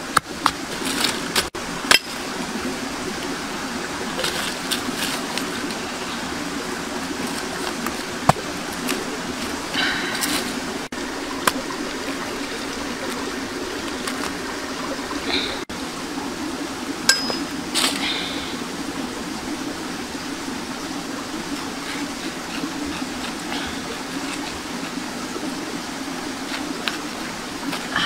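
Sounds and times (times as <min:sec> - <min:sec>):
flowing water rushing: 0:00.0 - 0:28.0.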